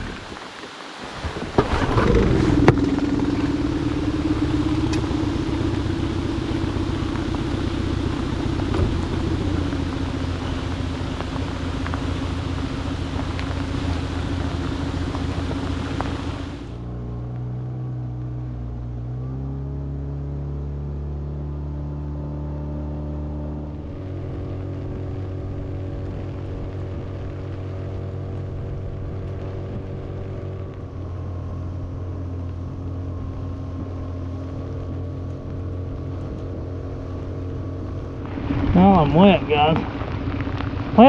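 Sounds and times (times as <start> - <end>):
boat motor running: 1.4 - 17.2, 17.9 - 41.0.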